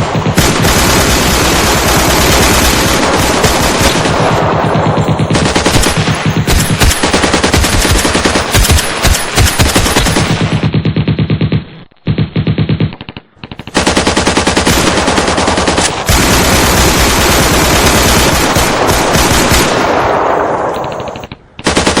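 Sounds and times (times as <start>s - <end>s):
automatic gunfire bursts: 0.0s - 11.5s, 12.4s - 22.0s.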